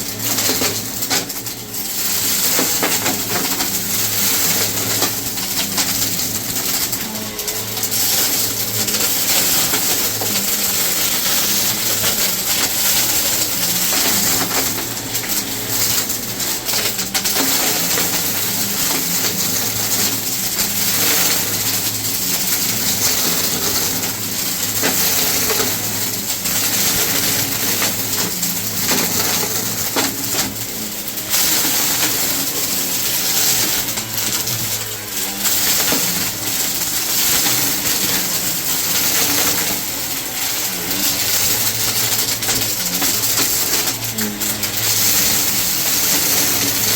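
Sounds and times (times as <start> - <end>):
debris clicking and rattling: 0.0 - 46.9
vacuum cleaner running: 0.0 - 46.9.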